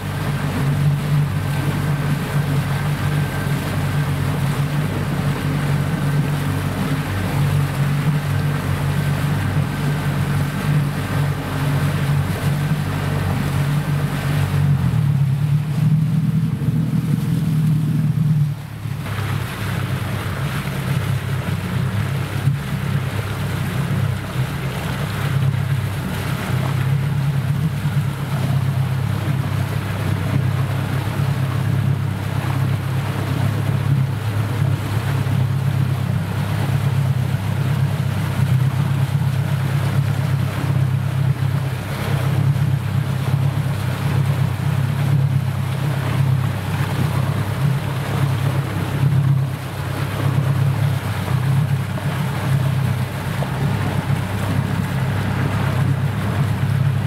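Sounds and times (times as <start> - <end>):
motor boat engine running: 0.0 - 57.0
water wash: 0.0 - 57.0.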